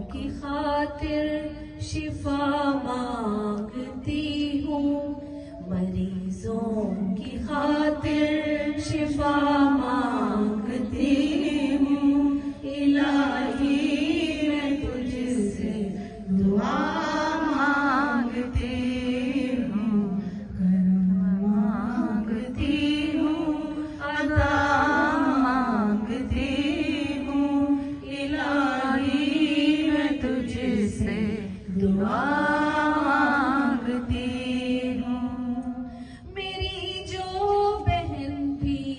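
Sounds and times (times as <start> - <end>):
women chanting through microphones: 0.0 - 38.9.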